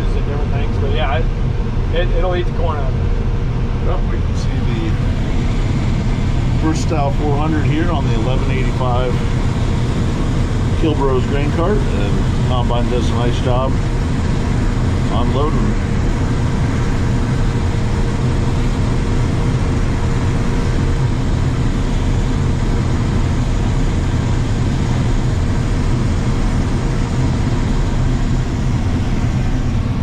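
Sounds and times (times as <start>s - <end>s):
combine harvester engine drone: 0.0s - 30.0s
faint steady whine: 0.0s - 30.0s.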